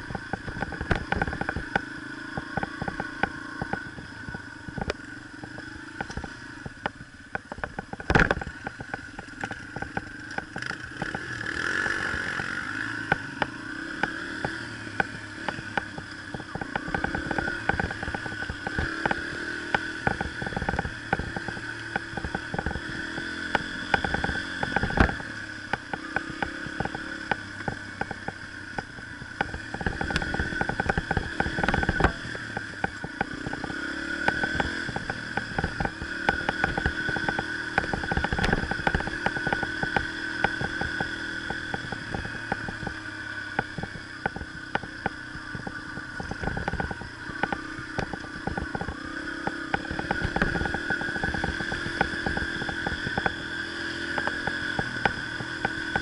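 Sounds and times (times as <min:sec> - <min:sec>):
bike rattling over rough trail: 0:00.0 - 0:56.0
dirt bike engine running: 0:00.0 - 0:56.0.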